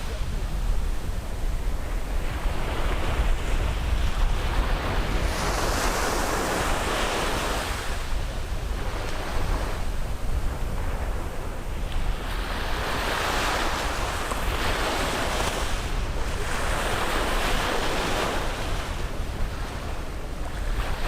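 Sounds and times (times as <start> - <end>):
ocean waves breaking: 0.0 - 21.0
wind rumble on microphone: 0.0 - 21.0.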